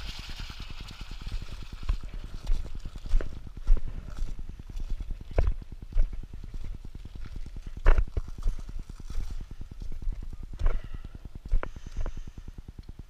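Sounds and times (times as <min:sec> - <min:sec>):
footsteps crunching on lava crust: 0:01.0 - 0:12.3
rapid low thumping: 0:01.2 - 0:12.7.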